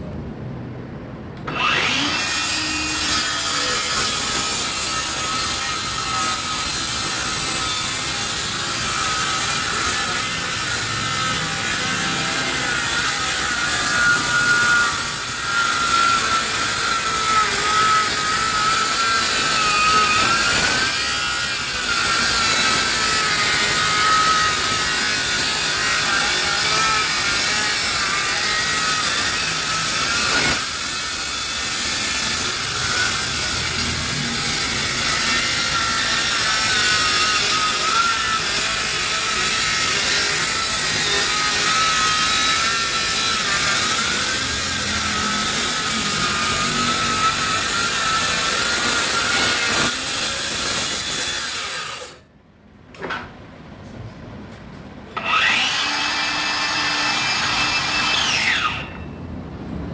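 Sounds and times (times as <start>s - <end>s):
circular saw cutting wood: 1.5s - 52.3s, 55.2s - 59.0s.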